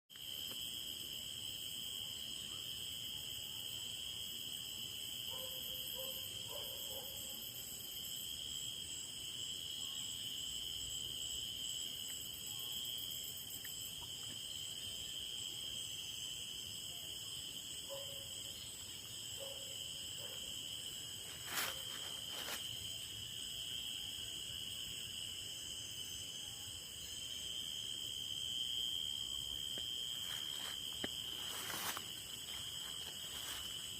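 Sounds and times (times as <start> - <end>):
crickets and insects trilling: 0.1 - 33.9.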